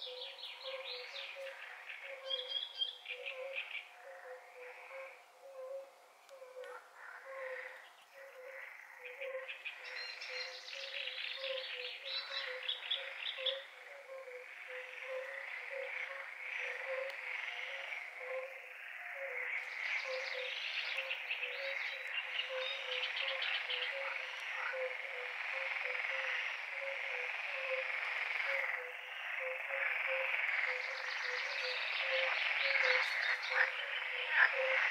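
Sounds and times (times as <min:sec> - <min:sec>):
short low frog calls: 0:03.2 - 0:34.9.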